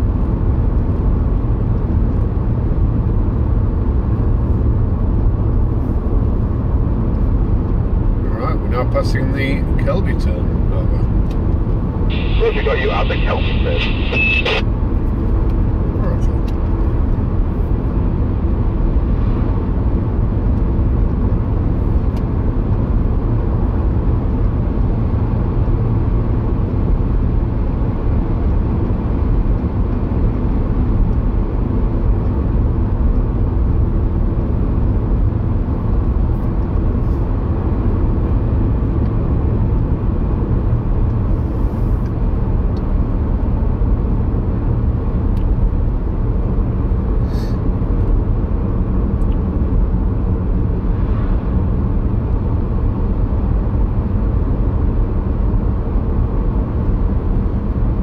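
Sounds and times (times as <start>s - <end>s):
car road noise from inside: 0.0s - 58.0s.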